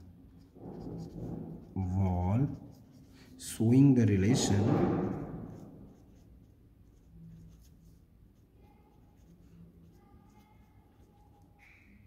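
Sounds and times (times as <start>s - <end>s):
pen scratching on paper: 0.0s - 11.5s.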